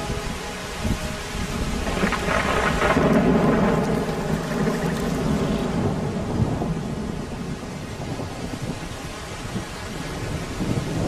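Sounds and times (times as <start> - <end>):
steady rain: 0.0 - 11.0
thunder rumbling: 0.0 - 11.0.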